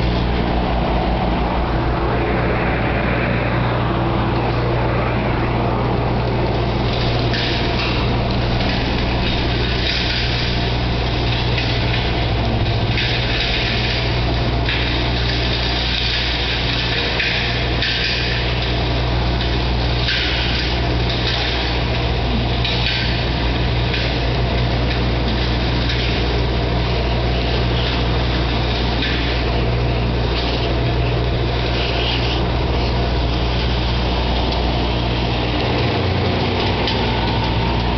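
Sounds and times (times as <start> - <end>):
dust collector running: 0.0 - 37.9.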